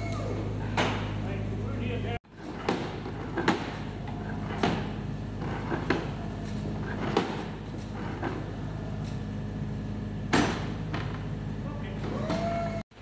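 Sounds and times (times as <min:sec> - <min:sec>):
hydraulic power unit hum: 0:00.0 - 0:13.0.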